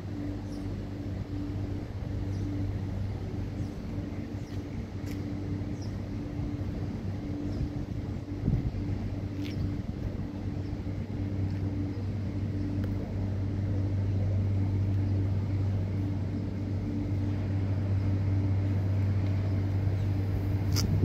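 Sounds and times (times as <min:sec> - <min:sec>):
electric locomotive low hum: 0:00.0 - 0:21.0.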